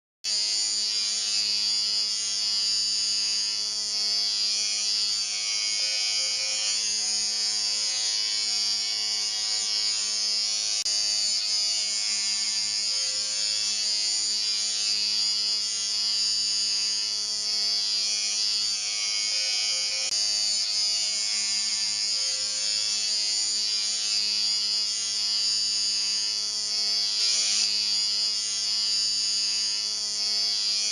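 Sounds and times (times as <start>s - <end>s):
electric shaver buzzing: 0.3s - 30.9s.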